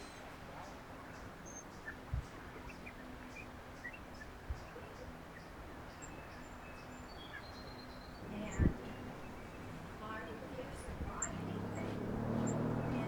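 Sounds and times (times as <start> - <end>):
bird chirps: 0.0 - 2.0, 2.6 - 9.8, 11.1 - 13.0
outdoor background hiss: 0.0 - 13.0.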